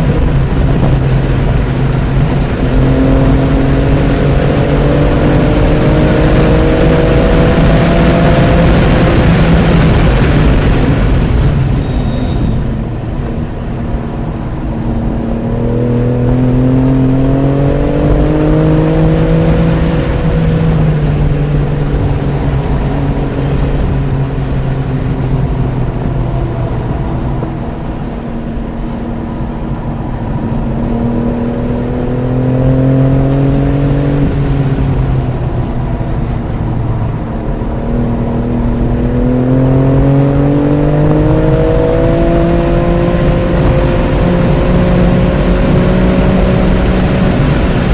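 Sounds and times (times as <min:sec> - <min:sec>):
car engine accelerating hard: 0:00.0 - 0:47.9
road and wind noise: 0:00.0 - 0:47.9.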